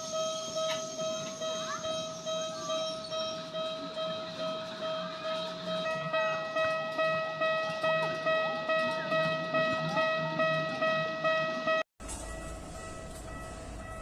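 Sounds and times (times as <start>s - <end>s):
railroad crossing alarm bell: 0.0s - 14.0s.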